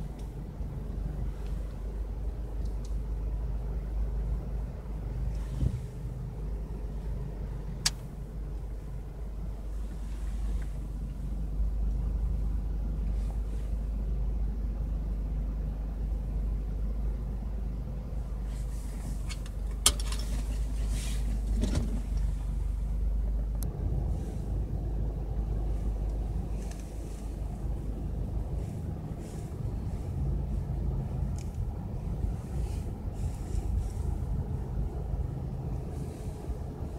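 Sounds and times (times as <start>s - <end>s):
car rumble from inside cabin: 0.0s - 36.9s.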